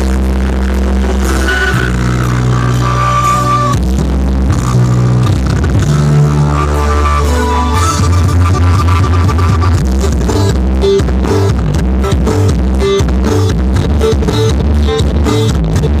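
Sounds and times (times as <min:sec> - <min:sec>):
loud electronic music: 0:00.0 - 0:16.0.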